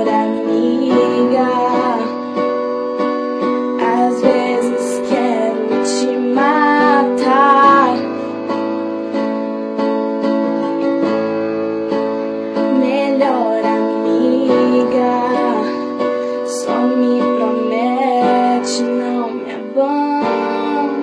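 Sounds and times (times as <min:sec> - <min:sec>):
pop music with guitar and keyboard: 0:00.0 - 0:21.0.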